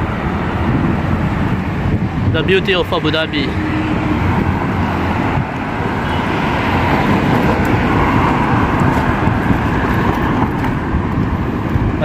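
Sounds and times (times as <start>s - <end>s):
wheels rolling on pavement: 0.0s - 12.0s
wind on microphone: 0.0s - 12.0s.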